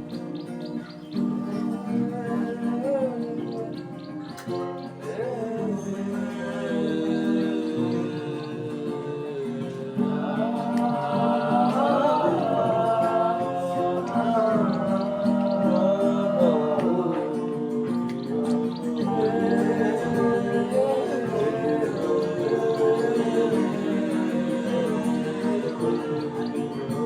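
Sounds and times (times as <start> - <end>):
guitar: 0.0 - 27.0
person singing long gliding notes: 0.0 - 27.0.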